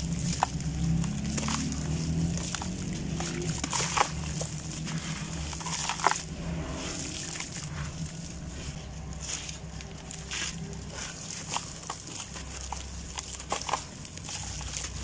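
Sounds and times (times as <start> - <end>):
crumbs splashing into water: 0.0 - 15.0
gravel crunching by hand: 0.0 - 15.0.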